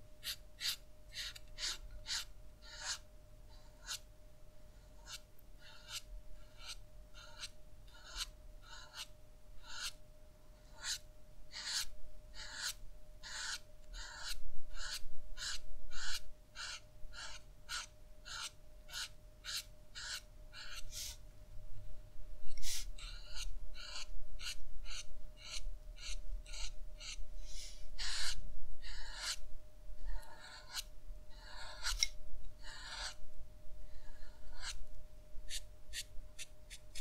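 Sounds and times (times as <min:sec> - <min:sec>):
faint steady hum: 0:00.0 - 0:37.0
marker strokes on paper: 0:00.2 - 0:03.0, 0:03.6 - 0:04.0, 0:05.0 - 0:10.0, 0:10.7 - 0:21.2, 0:22.6 - 0:29.4, 0:30.1 - 0:33.2, 0:34.4 - 0:34.8, 0:35.5 - 0:37.0.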